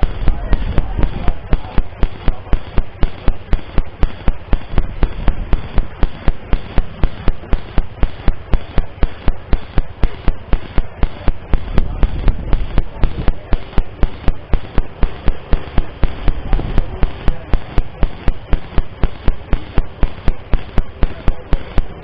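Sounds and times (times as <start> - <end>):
electrical clicking noise: 0.0 - 22.0.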